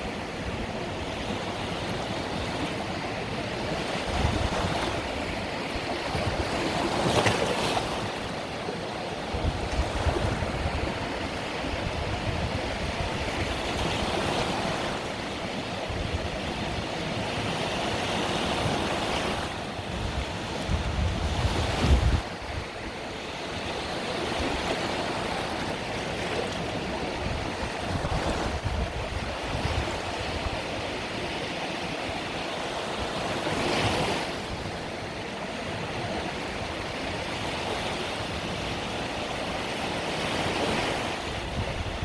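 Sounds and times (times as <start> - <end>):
wind rumble on microphone: 0.0 - 8.5, 9.1 - 42.0
sea waves breaking on shore: 0.0 - 42.0.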